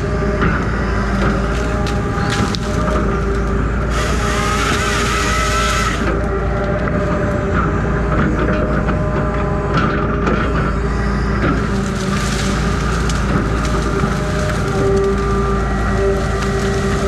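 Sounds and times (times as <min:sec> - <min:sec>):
saw cutting through tree: 0:00.0 - 0:07.6, 0:10.4 - 0:17.0
engine running under load: 0:00.0 - 0:17.0.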